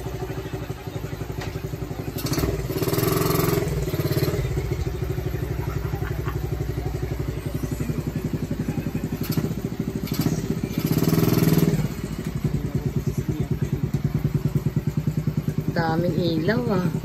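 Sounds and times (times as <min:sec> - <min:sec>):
small engine idling and revving: 0:00.0 - 0:17.0.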